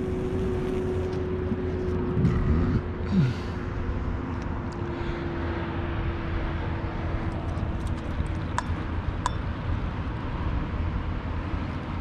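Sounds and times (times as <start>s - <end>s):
distant road traffic rumble: 0.0s - 12.0s
faint steady drone: 0.0s - 12.0s.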